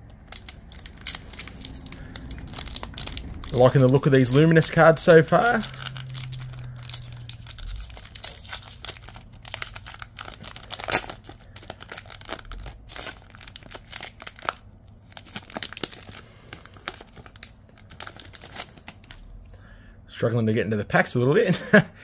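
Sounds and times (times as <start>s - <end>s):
foil wrapper crinkling and tearing: 0.0s - 19.5s.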